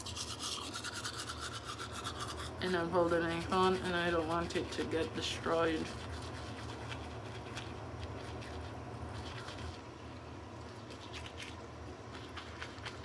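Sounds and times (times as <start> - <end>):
steady low hum: 0.0 - 13.0
toothbrush scrubbing teeth: 0.0 - 13.0.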